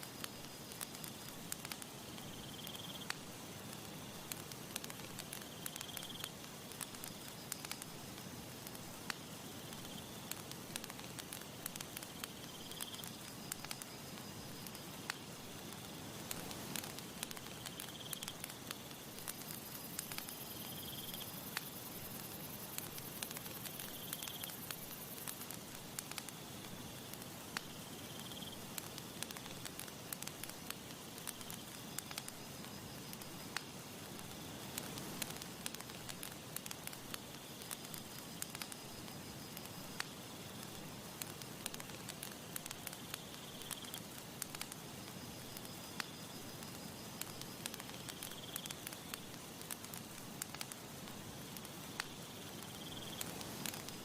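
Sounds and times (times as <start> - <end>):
campfire crackling and popping: 0.0 - 54.0
soft steady hiss: 0.0 - 54.0.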